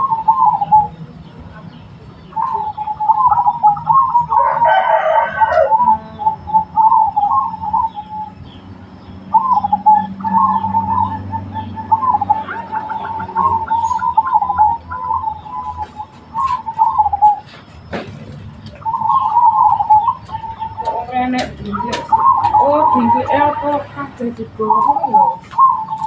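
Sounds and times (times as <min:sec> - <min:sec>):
dove cooing: 0:00.0 - 0:01.0, 0:02.3 - 0:08.6, 0:09.3 - 0:26.0
small birds chirping: 0:00.0 - 0:26.0.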